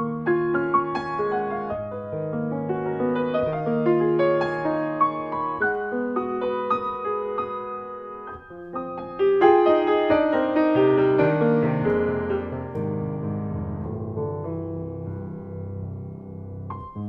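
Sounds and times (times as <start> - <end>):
solo grand piano: 0.0 - 17.0.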